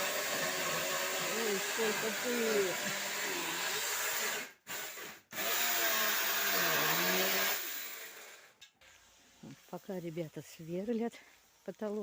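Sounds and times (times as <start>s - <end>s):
power drill boring through ceiling: 0.0s - 9.8s.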